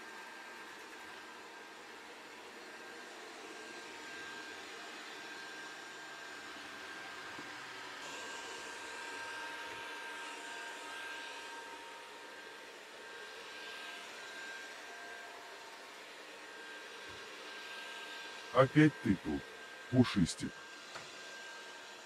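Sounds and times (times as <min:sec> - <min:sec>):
robot vacuum cleaner whirring: 0:00.1 - 0:18.5, 0:20.6 - 0:22.0.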